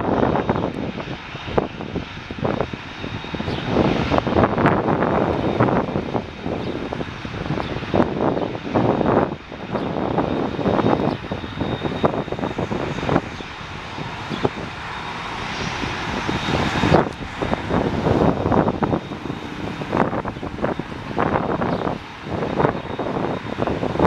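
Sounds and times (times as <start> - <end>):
airliner engine rushing: 0.0 - 24.0.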